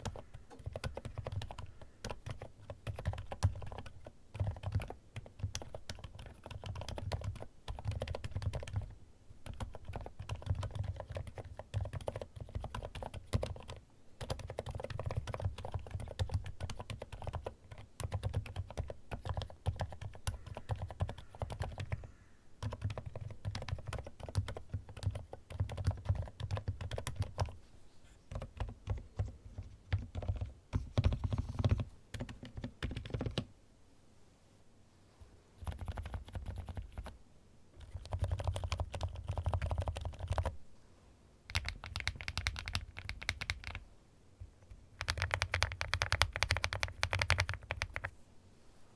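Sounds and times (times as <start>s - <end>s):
mechanical keyboard typing: 0.0s - 22.0s, 22.6s - 27.6s, 28.3s - 33.5s, 35.6s - 37.2s, 37.8s - 40.6s, 41.5s - 43.8s, 44.7s - 48.1s.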